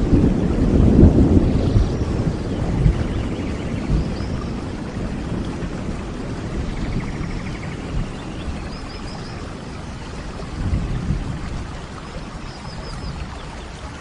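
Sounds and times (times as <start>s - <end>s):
low thunder rumble: 0.0s - 13.8s
heavy rain: 0.0s - 14.0s.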